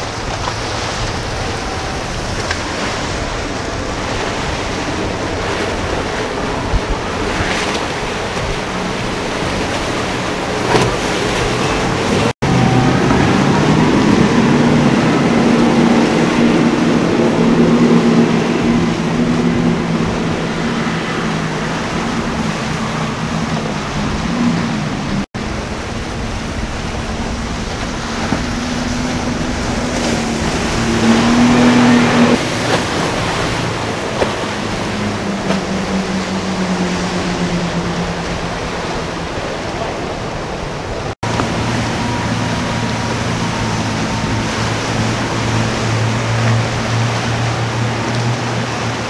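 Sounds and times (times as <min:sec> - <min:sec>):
boat wake and spray rushing: 0:00.0 - 0:49.0
motorboat engines running: 0:00.0 - 0:49.0.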